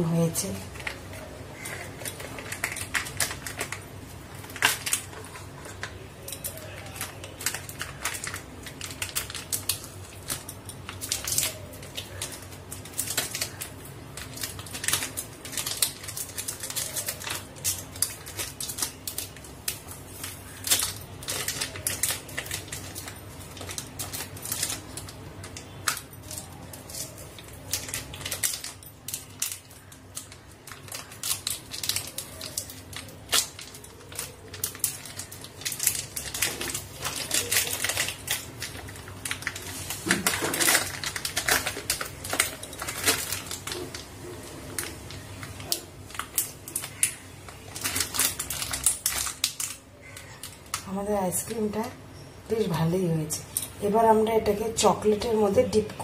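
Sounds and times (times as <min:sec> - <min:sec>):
plastic wrapper crinkling and tearing: 0:00.2 - 0:52.6.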